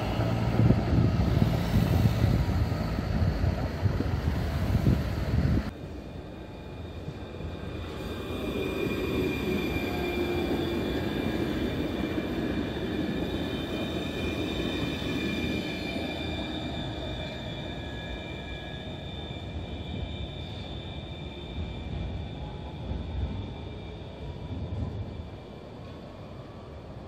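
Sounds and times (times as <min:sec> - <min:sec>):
tram wheels on rails: 0:00.0 - 0:27.0.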